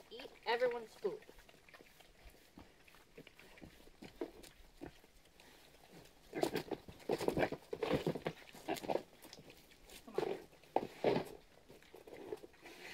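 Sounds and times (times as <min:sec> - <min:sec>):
pigs chewing: 0:00.0 - 0:12.9
pigs grunting rapidly: 0:00.4 - 0:12.9.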